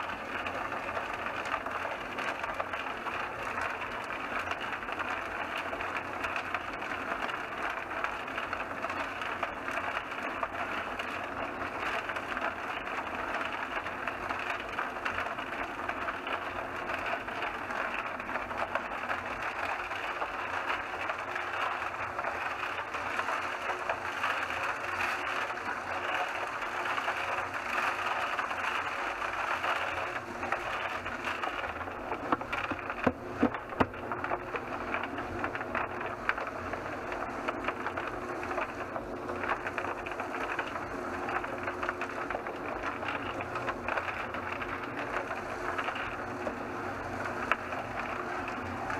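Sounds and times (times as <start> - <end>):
cement mixer rattling: 0.0 - 48.9.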